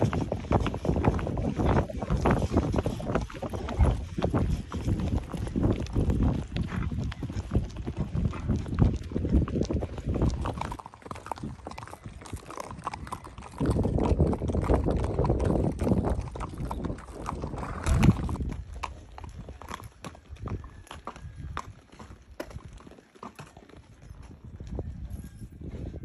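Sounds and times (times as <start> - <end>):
horse hooves clip-clopping: 0.0 - 26.0.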